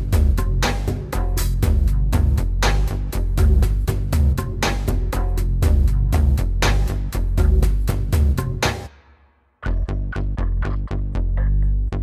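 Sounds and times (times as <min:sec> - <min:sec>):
electronic music with deep bass: 0:00.0 - 0:08.9, 0:09.6 - 0:12.0.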